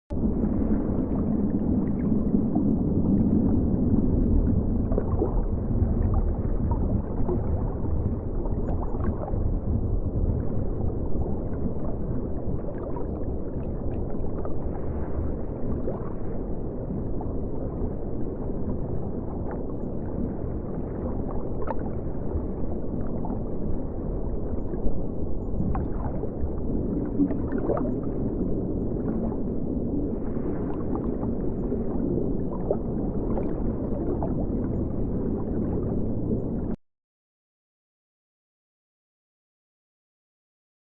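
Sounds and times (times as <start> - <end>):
river water flowing underwater: 0.1 - 36.8.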